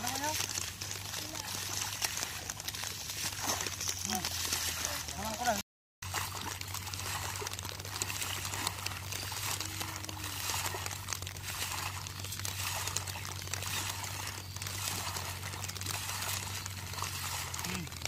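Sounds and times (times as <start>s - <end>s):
hoes churning through mud: 0.0s - 18.0s
splashes and squelches: 0.0s - 18.0s
steady low hum: 0.0s - 18.0s.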